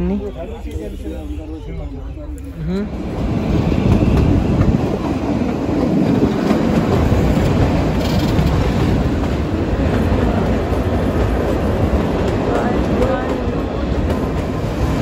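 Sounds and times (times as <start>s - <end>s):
train coaches rumbling and rattling: 0.0s - 15.0s.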